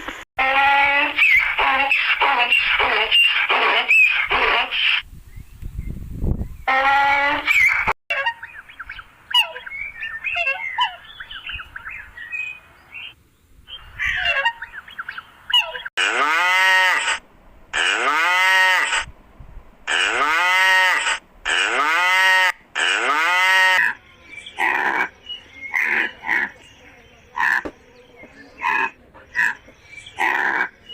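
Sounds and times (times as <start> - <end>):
farm animal calling: 0.4 - 5.0, 6.6 - 19.1, 19.9 - 30.9.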